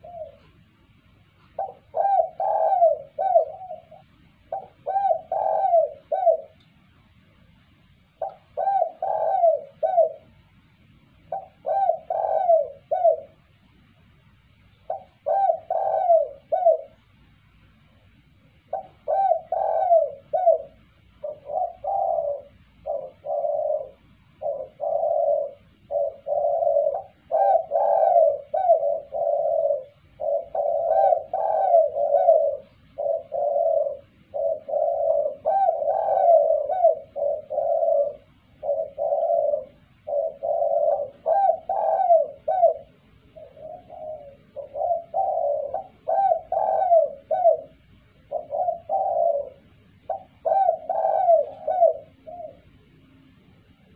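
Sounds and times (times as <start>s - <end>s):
dove cooing: 0.0s - 13.8s, 14.7s - 17.3s, 17.9s - 53.9s.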